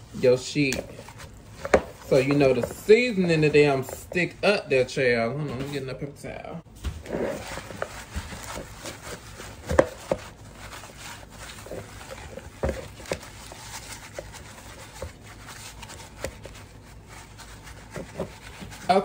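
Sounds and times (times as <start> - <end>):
paper towel rustling and patting: 0.0 - 4.3, 6.7 - 19.0.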